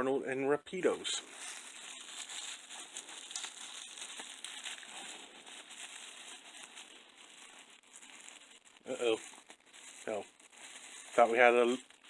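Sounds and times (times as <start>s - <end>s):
packaging crinkling and rustling: 0.9s - 12.0s.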